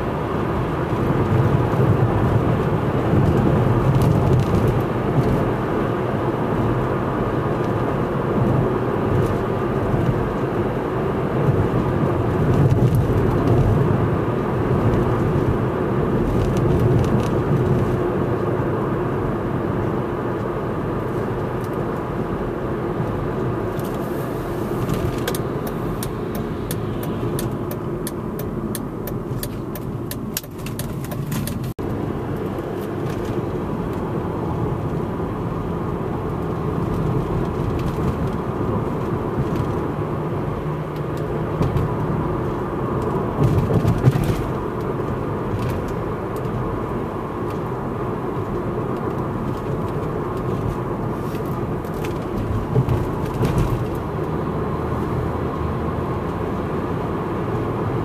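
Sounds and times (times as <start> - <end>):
road and engine noise: 0.0 - 58.0.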